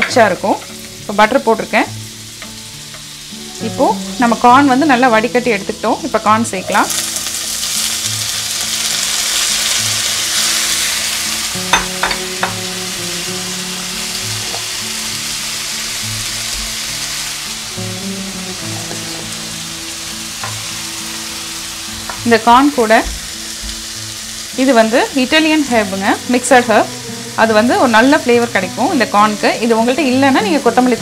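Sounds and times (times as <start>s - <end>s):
corn sizzling in butter: 0.0s - 31.0s.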